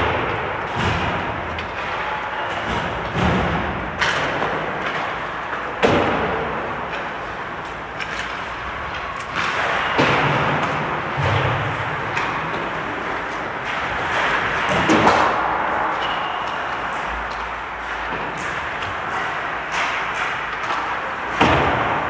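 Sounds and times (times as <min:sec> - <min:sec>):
pucks and sticks striking boards: 0:00.0 - 0:22.0
steady background hum: 0:00.0 - 0:22.0.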